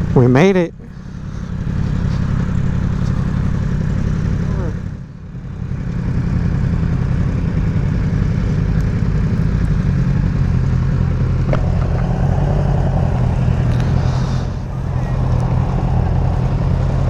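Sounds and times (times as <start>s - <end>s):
motorcycle engine running: 0.9s - 17.0s.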